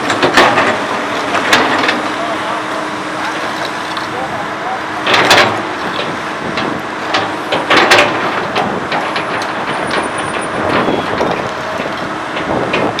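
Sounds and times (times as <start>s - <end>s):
excavator clanks and knocks: 0.0s - 2.4s, 3.1s - 13.0s
diesel engine running: 0.0s - 13.0s.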